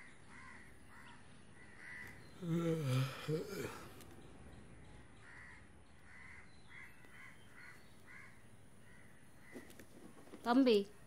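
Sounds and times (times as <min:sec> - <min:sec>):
crows cawing faintly: 0:00.0 - 0:04.1, 0:05.2 - 0:10.4.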